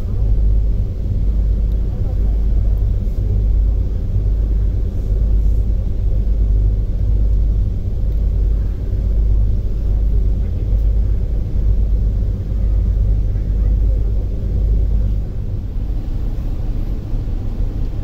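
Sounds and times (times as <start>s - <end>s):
diesel engine rumbling: 0.0s - 18.0s
faint steady hum: 0.0s - 18.0s.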